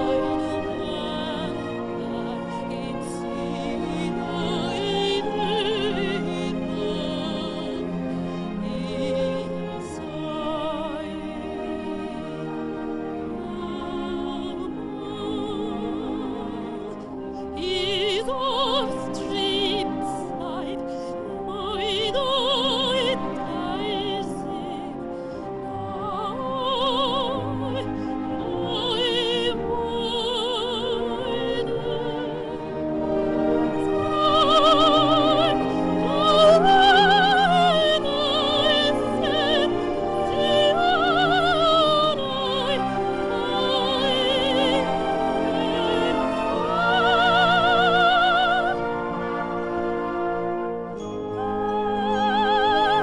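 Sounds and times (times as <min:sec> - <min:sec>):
woman singing operatically: 0:00.0 - 0:11.4, 0:13.3 - 0:32.9, 0:33.7 - 0:49.5, 0:51.2 - 0:53.0
instrumental accompaniment: 0:00.0 - 0:53.0.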